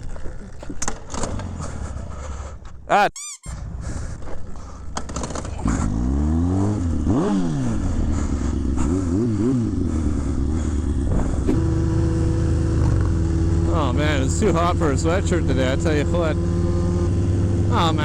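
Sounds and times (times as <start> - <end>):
motorcycle engine revving: 0.0 - 2.8, 3.5 - 18.0.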